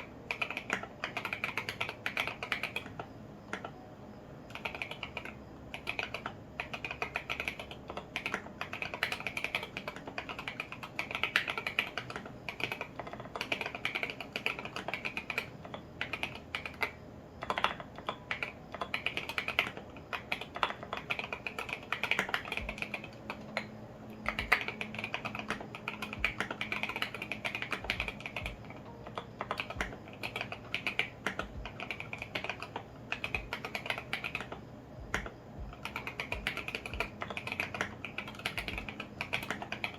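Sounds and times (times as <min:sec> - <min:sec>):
fast mechanical keyboard typing: 0:00.0 - 0:03.9, 0:04.5 - 0:39.9.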